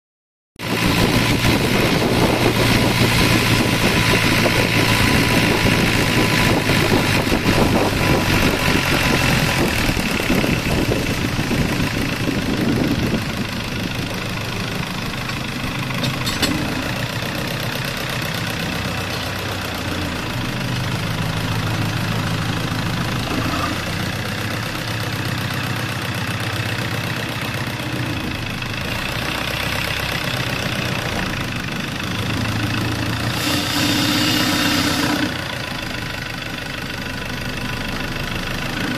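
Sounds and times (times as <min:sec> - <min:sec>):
boat motor running: 0:00.6 - 0:35.5.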